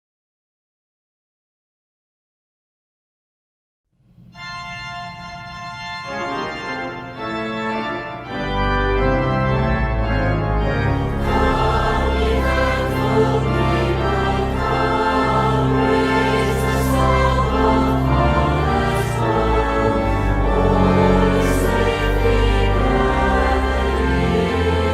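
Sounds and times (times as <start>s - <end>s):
organ playing hymn: 4.3s - 24.9s.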